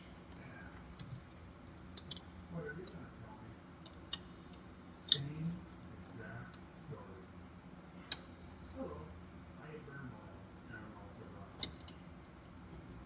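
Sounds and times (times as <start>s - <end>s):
faint low murmur: 0.0s - 13.0s.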